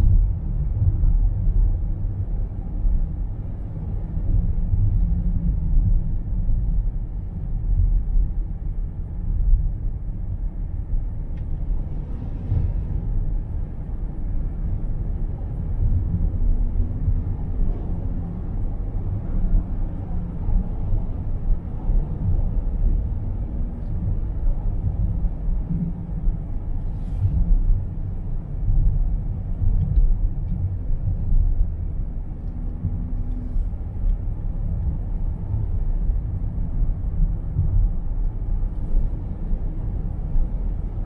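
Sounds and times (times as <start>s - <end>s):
low fluttering rumble: 0.0s - 41.0s.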